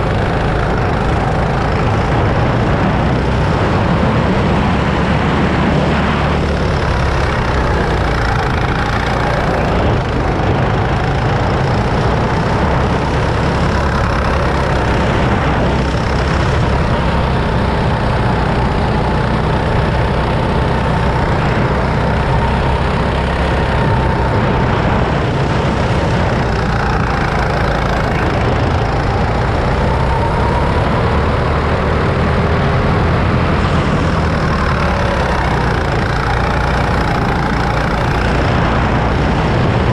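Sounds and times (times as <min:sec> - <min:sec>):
go-kart engine droning: 0:00.0 - 0:39.9.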